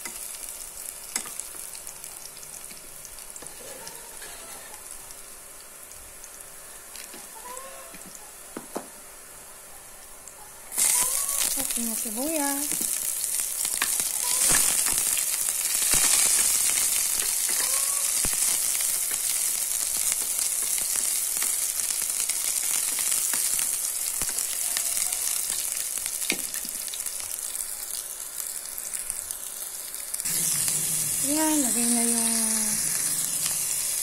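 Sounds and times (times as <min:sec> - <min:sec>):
onion and garlic sizzling in oil: 0:00.0 - 0:34.0.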